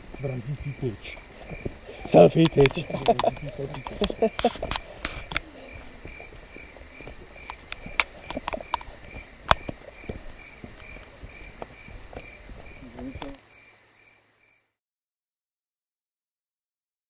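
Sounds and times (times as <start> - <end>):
crickets chirping: 0.0 - 14.8.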